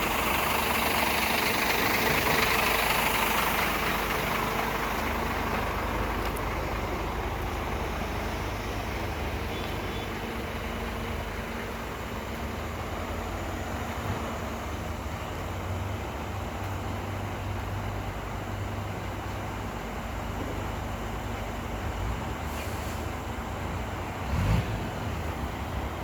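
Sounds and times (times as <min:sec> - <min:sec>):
diesel machinery running: 0:00.0 - 0:26.0.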